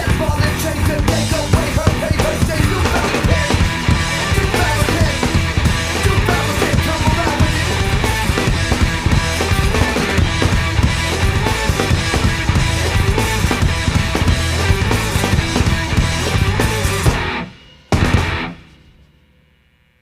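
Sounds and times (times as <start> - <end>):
heavy rock band playing: 0.0 - 19.0
drum hits: 1.0 - 19.0.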